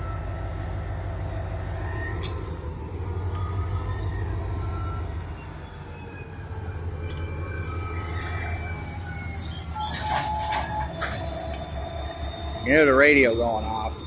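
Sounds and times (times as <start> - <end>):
locomotive engine droning: 0.0 - 14.0
thin high whine: 0.0 - 14.0.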